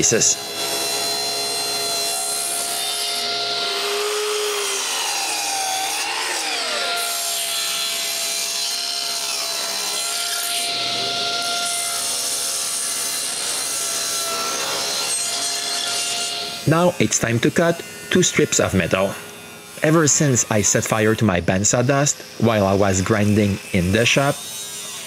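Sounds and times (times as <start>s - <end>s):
table saw ripping wood: 0.0s - 25.0s.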